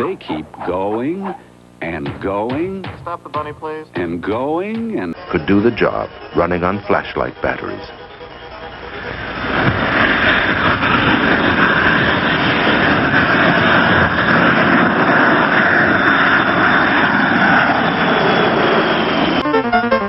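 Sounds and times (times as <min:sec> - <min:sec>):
jet airliner engines rushing: 0:00.0 - 0:20.0.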